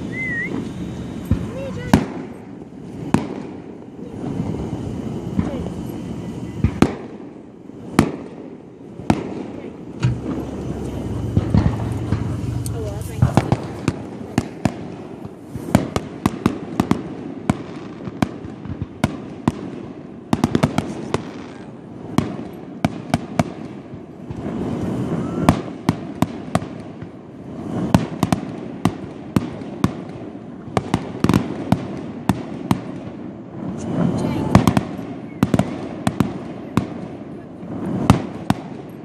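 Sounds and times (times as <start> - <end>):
fireworks bangs and pops: 0.0 - 5.8, 6.6 - 39.0.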